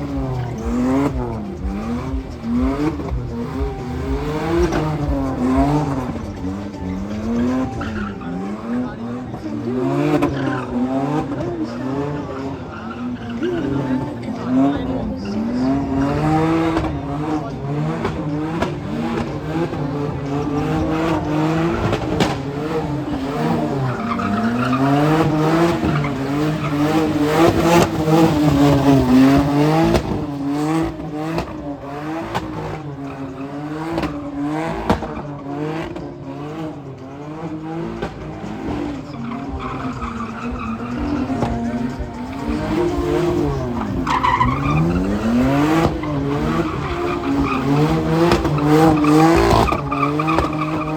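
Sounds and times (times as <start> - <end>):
car engine revving hard: 0.0 - 50.9
tyres squealing: 0.0 - 50.9.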